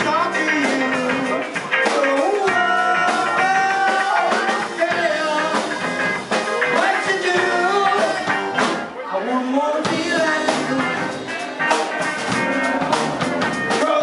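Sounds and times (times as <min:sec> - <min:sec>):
person singing lead vocal: 0:00.0 - 0:05.9, 0:06.5 - 0:11.9, 0:12.6 - 0:14.0
electric guitar: 0:00.0 - 0:14.0
live rock band playing: 0:00.0 - 0:14.0.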